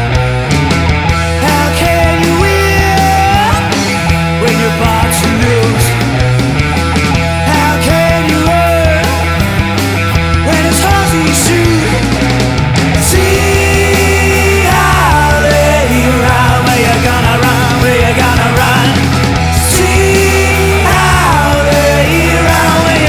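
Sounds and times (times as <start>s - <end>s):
blues-rock song: 0.0s - 23.0s.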